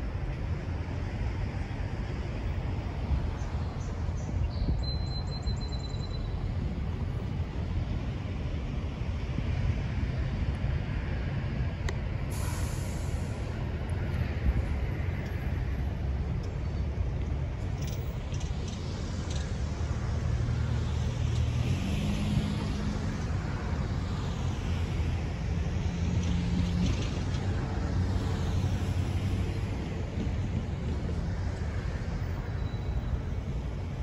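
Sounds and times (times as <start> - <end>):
diesel locomotive engines rumbling: 0.0 - 34.0.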